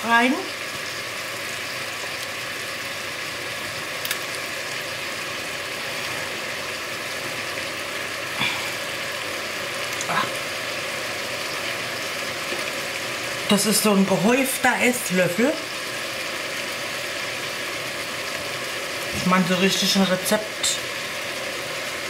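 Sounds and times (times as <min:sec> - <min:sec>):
meat and vegetables sizzling in a pan: 0:00.0 - 0:22.0.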